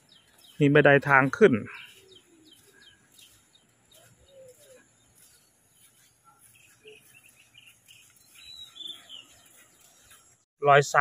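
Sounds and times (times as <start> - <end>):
bird chirps and calls: 0.0 - 10.4.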